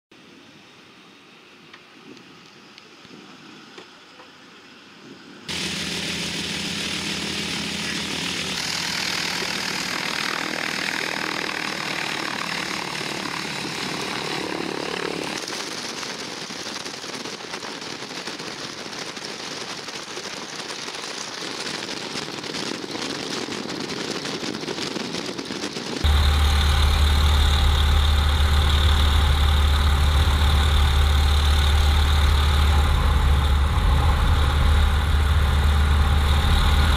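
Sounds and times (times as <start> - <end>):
radial aircraft engine droning: 0.2 - 19.1, 24.2 - 36.9.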